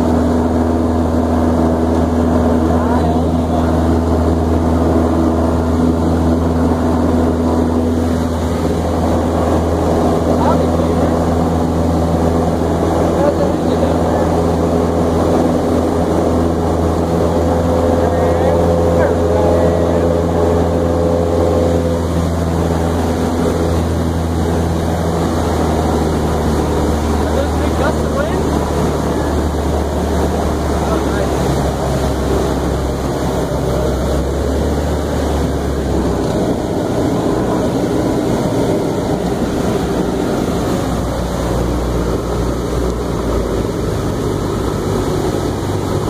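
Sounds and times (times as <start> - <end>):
light aircraft engine droning: 0.0 - 46.0.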